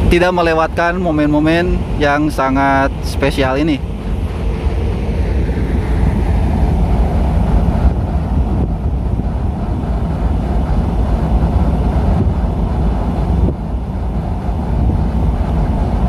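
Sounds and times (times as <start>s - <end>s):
diesel locomotive rumbling: 0.0s - 16.0s.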